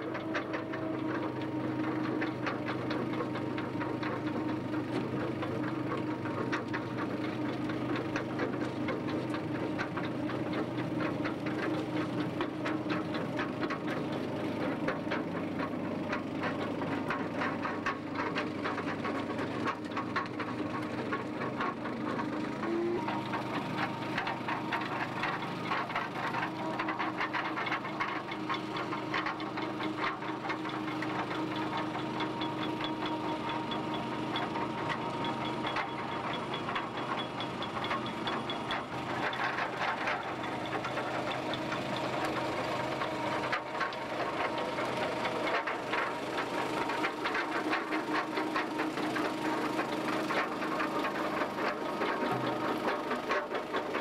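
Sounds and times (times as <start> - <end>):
outboard motors running: 0.0 - 54.0.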